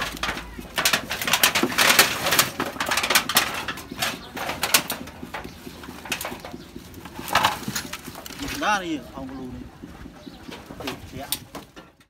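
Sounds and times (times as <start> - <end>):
rustling in scrap metal and branches: 0.0 - 12.0.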